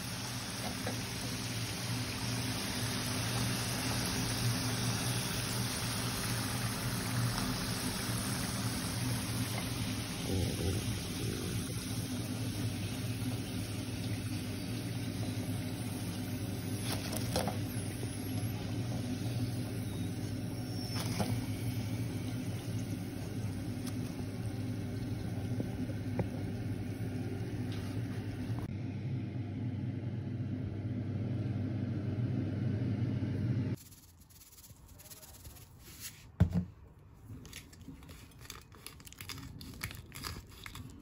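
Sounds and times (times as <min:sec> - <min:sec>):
kitchen fan motor hum: 0:00.0 - 0:41.0.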